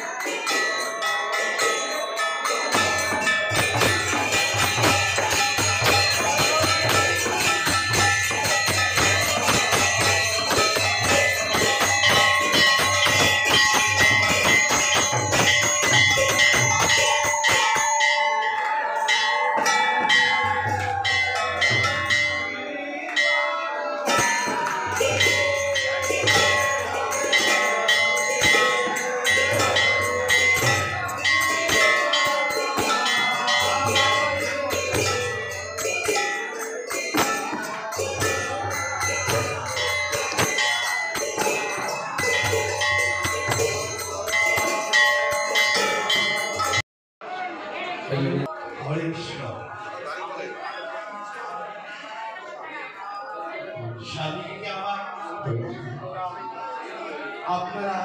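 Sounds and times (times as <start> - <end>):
bells ringing: 0.0 - 46.9, 49.6 - 55.9
jingling percussion: 0.0 - 46.9.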